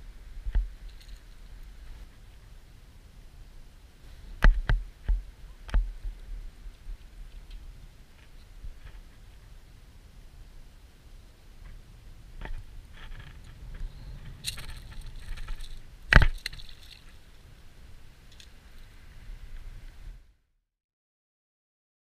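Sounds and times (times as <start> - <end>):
wind: 0.0 - 20.6.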